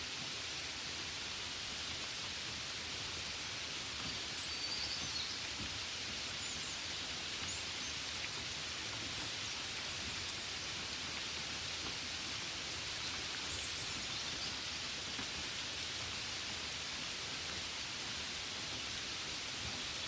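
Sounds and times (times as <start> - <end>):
rain pattering on a window: 0.1 - 20.0.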